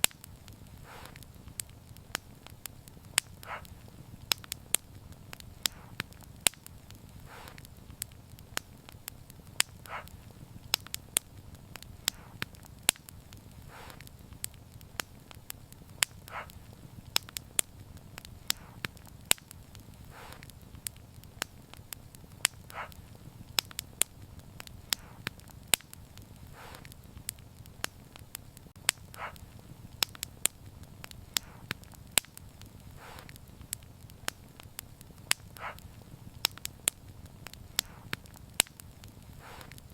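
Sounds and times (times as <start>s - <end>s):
soft fire hiss: 0.0s - 39.9s
wood fire crackling and popping: 0.0s - 39.9s.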